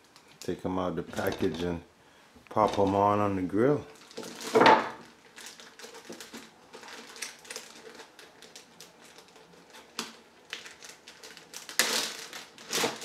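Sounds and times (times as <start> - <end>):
plastic bag crinkling: 0.1 - 1.8, 2.5 - 13.0.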